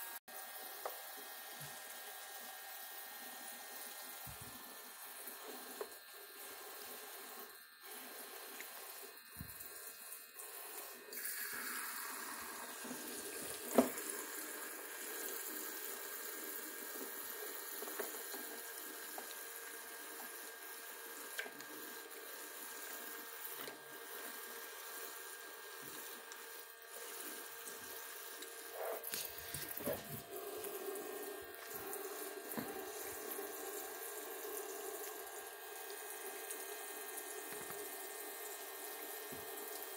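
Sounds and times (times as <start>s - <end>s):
water running from faucet: 0.0s - 39.9s.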